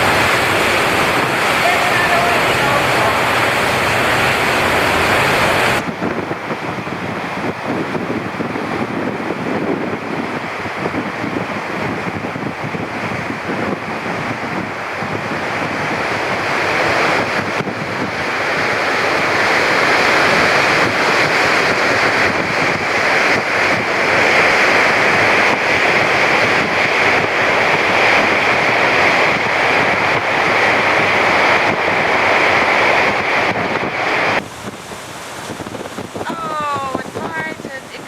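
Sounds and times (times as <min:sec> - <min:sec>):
rushing sea water: 0:00.0 - 0:38.0
wind blowing across microphone: 0:00.0 - 0:38.0.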